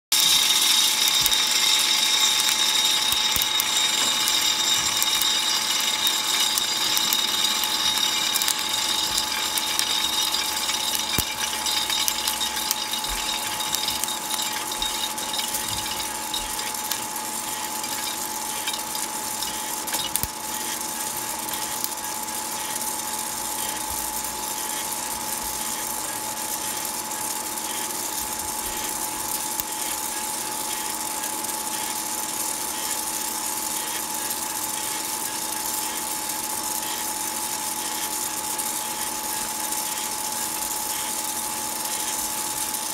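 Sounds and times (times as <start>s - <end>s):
coffee beans rattling: 0.1s - 42.9s
steady motor hum: 0.1s - 42.9s.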